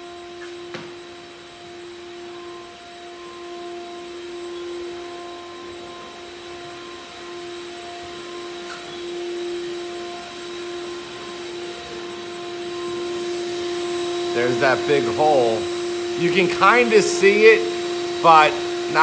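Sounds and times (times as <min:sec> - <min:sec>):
vacuum motor running: 0:00.0 - 0:19.0.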